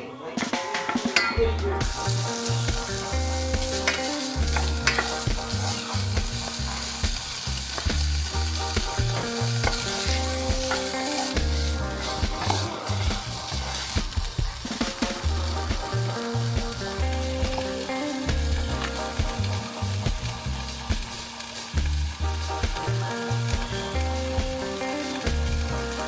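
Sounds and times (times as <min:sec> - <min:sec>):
food sizzling in a pan: 0:01.8 - 0:26.0.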